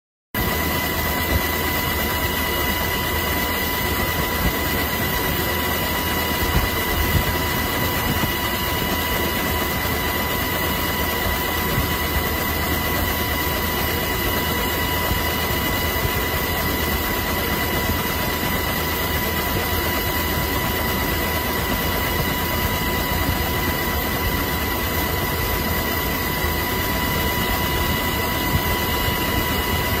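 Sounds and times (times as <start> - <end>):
aircraft engine drone: 0.4 - 30.0
high whine: 0.4 - 30.0.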